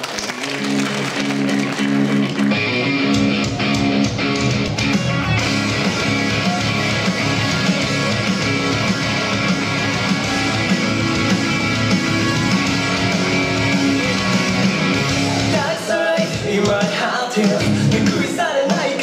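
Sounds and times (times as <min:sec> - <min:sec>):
rock band with drums: 0:00.0 - 0:19.0
rock guitar: 0:00.3 - 0:19.0.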